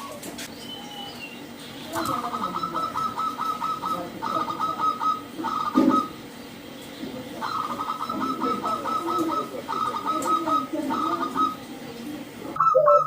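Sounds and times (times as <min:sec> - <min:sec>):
zebra doves calling: 0:00.0 - 0:13.0.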